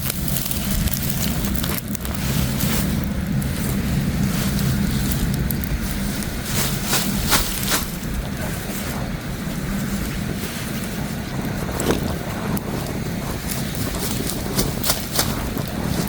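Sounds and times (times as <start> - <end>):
short crackles: 0.0 - 16.0
wind buffeting microphone: 0.0 - 16.0.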